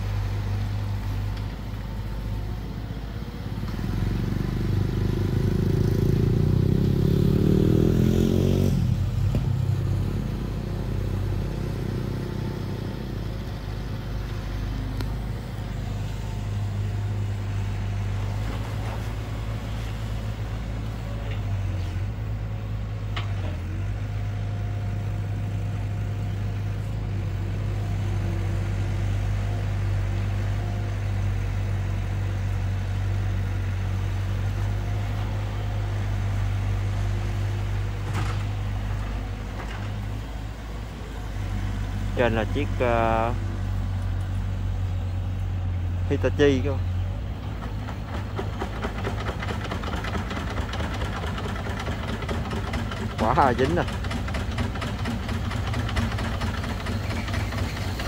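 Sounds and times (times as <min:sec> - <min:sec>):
excavator diesel engine running: 0:00.0 - 0:07.6, 0:09.0 - 0:58.0.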